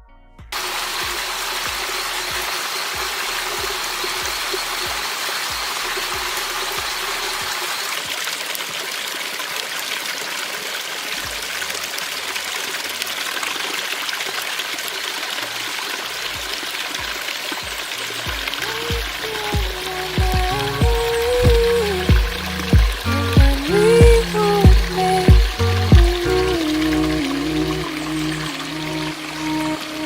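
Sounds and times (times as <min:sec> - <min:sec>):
stream water splashing over rocks: 0:00.6 - 0:30.0.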